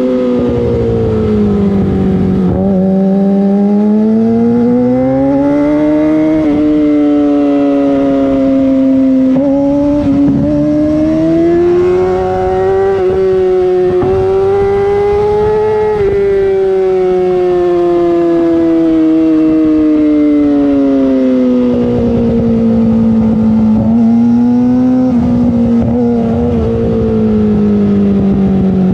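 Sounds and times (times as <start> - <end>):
motorcycle engine at high revs: 0.0 - 28.9.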